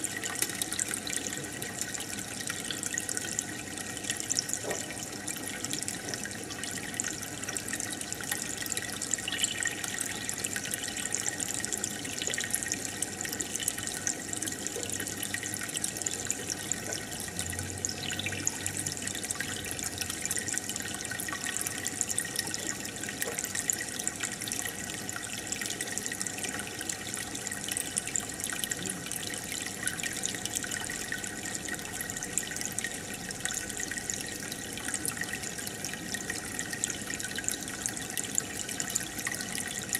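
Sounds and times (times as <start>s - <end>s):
aquarium filter water trickle: 0.0s - 39.9s.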